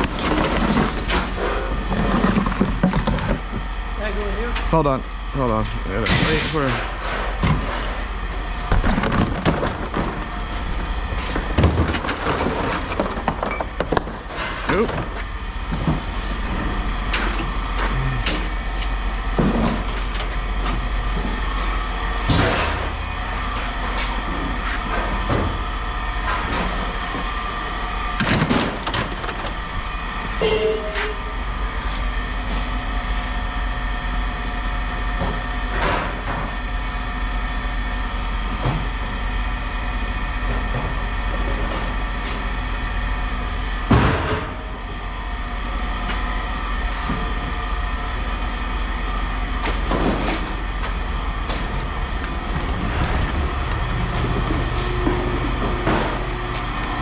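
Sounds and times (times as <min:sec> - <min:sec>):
mechanical drone: 0:00.0 - 0:36.0, 0:36.8 - 0:57.0.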